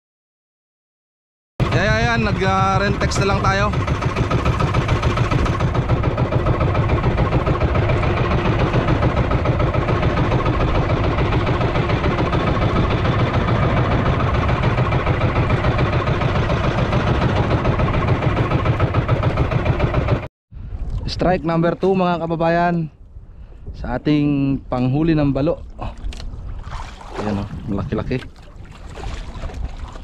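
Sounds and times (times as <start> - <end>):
small boat engine throbbing: 1.6 - 21.0, 22.9 - 30.0.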